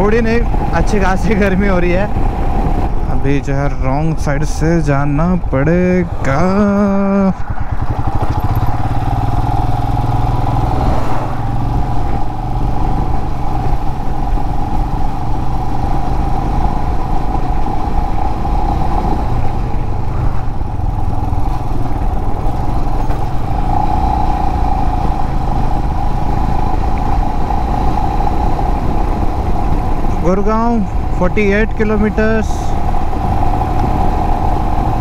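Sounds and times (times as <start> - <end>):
motorcycle engine running steadily: 0.0 - 35.0.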